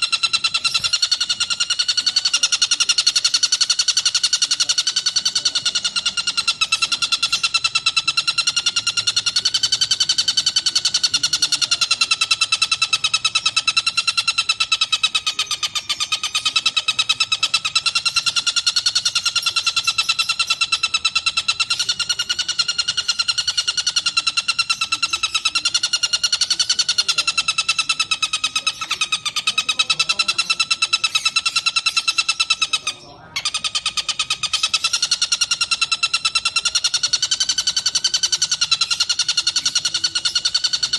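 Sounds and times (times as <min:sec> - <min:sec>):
kingfisher rattling trill: 0:00.0 - 0:40.9.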